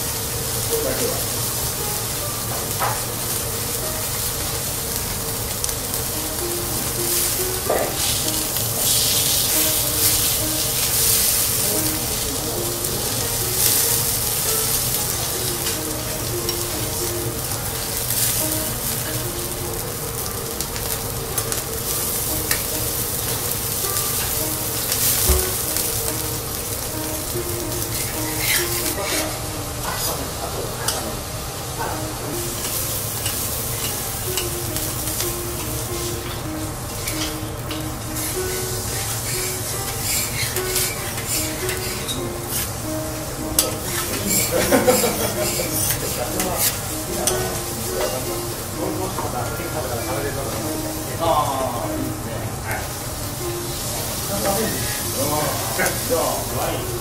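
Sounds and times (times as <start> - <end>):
steak sizzling on a griddle: 0.0 - 57.0.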